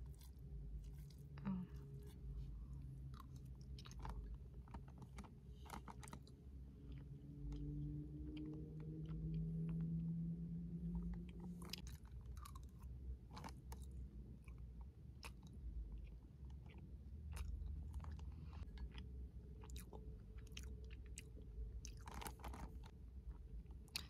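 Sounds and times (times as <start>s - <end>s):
person chewing food: 0.0s - 10.2s, 10.8s - 24.0s
low steady hum: 0.0s - 24.0s.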